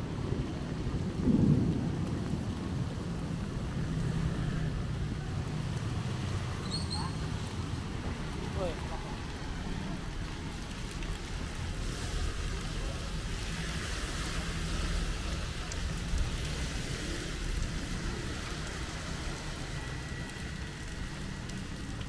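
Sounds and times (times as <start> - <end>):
rain on street: 0.0 - 22.0
traffic rumble: 0.0 - 22.0.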